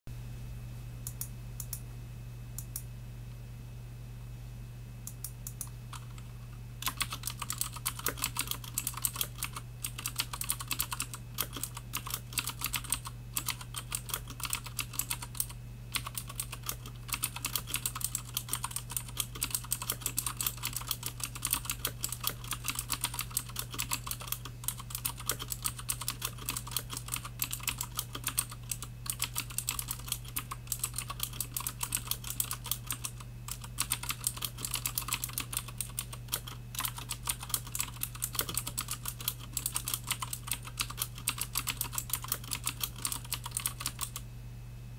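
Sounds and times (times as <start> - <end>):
steady low hum: 0.1 - 44.9
clicky mechanical keyboard typing: 5.1 - 44.2.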